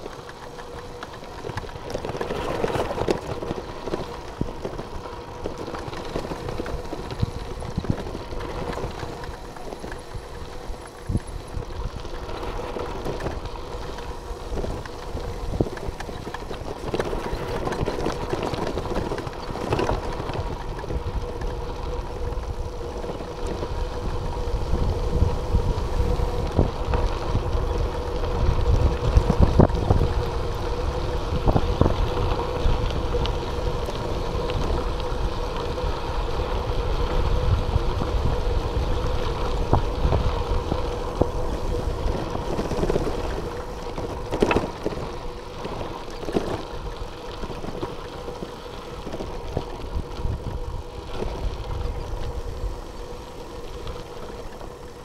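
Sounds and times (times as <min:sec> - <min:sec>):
bicycle tyres crunching on gravel: 0:00.0 - 0:55.0
wind buffeting microphone: 0:00.0 - 0:55.0.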